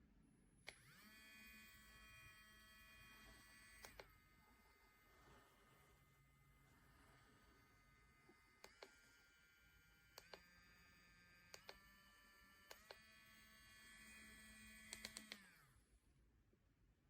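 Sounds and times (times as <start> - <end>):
small motor whining: 0.7 - 15.9.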